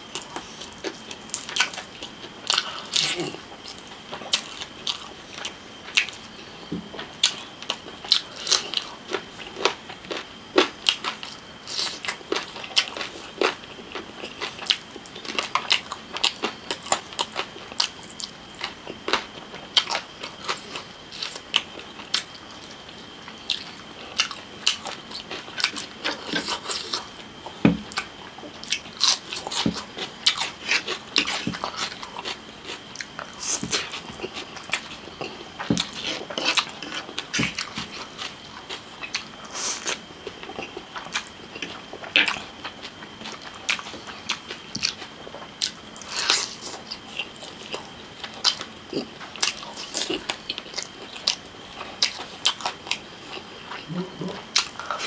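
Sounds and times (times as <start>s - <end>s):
chewing meat off a bone: 0.1s - 55.0s
eating noodles: 0.1s - 55.0s.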